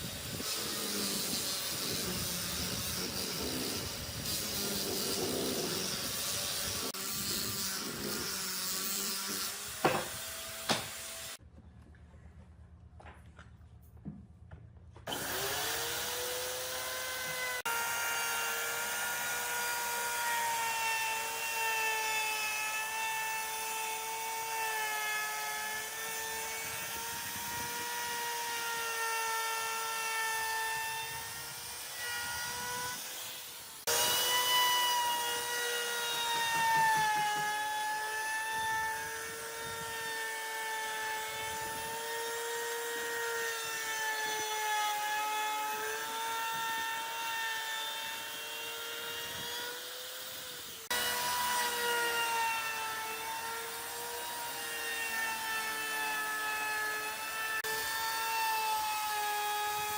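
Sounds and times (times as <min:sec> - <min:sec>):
power tool motor whining: 0:00.0 - 0:11.4, 0:15.1 - 0:59.9.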